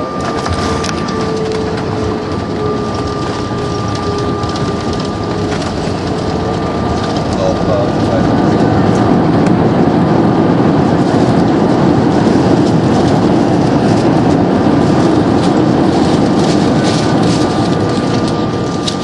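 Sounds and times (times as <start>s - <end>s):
airliner cabin rumble and rattle: 0.0s - 19.0s.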